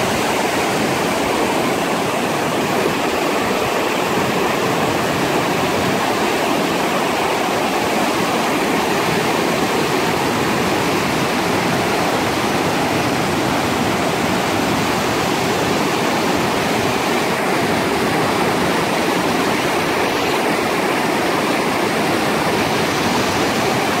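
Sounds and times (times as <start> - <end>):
river water rushing over rocks: 0.0 - 24.0.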